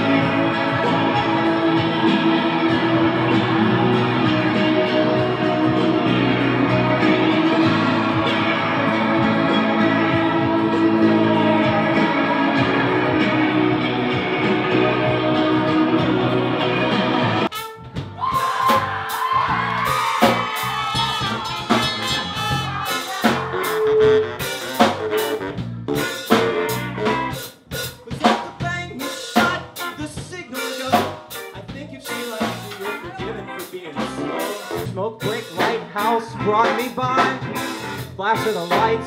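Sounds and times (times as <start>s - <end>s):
guitar-heavy rock music: 0.0s - 17.6s, 18.4s - 39.0s
trumpet line: 0.0s - 27.4s, 28.9s - 39.0s
busy drum kit: 0.0s - 39.0s.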